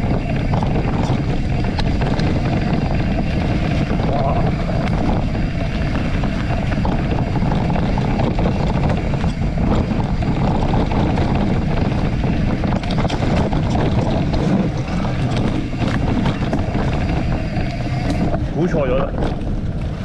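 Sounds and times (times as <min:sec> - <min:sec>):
low road rumble: 0:00.0 - 0:20.0
wind buffeting microphone: 0:00.0 - 0:20.0.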